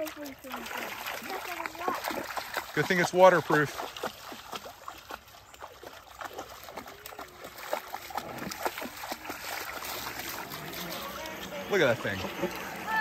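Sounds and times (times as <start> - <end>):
stream trickling: 0.0 - 13.0
water splashing under wading legs: 0.0 - 13.0.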